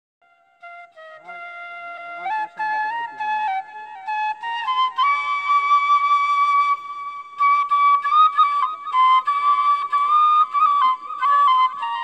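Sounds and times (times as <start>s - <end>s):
solo flute melody: 0.2s - 12.0s.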